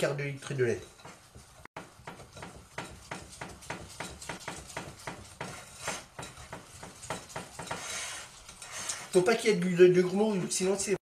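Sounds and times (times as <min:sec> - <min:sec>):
utensil beating batter in a bowl: 0:00.0 - 0:11.0.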